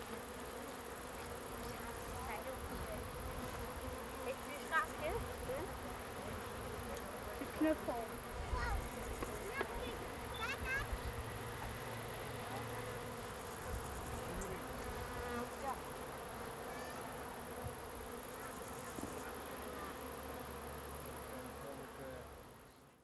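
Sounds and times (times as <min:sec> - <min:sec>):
bees buzzing: 0:00.0 - 0:22.7.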